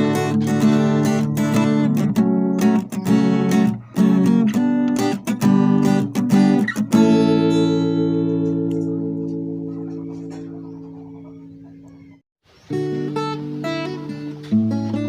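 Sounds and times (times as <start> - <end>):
acoustic guitar strummed chords: 0.0 - 10.8, 12.7 - 15.0.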